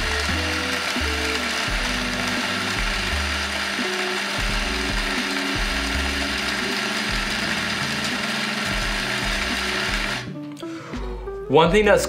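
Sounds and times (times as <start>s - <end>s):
coffee grinder grinding: 0.0s - 10.3s.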